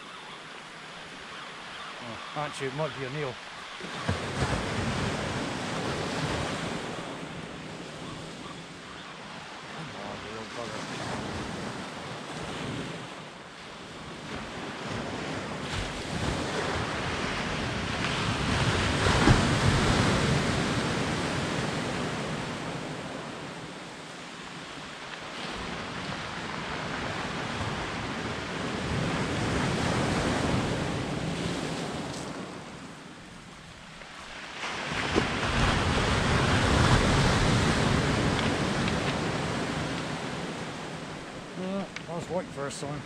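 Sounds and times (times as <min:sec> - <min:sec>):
surf washing on shore: 0:00.0 - 0:43.0.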